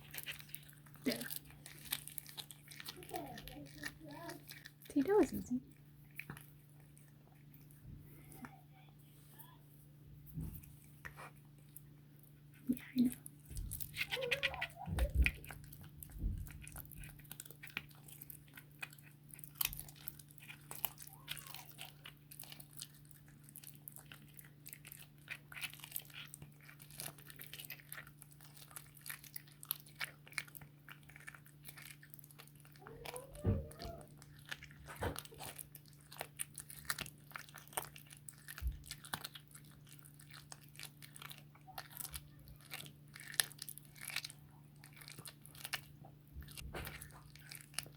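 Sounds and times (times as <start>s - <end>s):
cat crunching bones: 0.0s - 8.6s, 10.2s - 47.9s.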